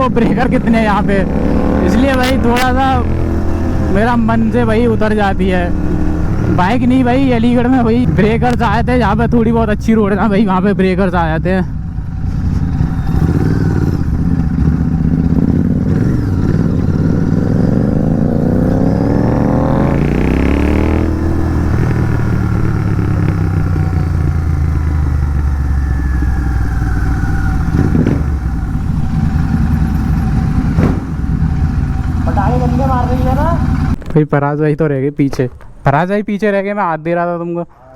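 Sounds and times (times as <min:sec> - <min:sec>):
motorcycle engine revving: 0:00.0 - 0:34.2.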